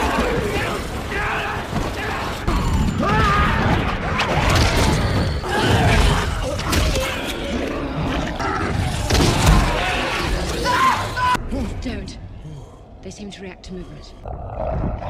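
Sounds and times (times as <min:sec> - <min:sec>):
tense film music: 0:00.0 - 0:14.7.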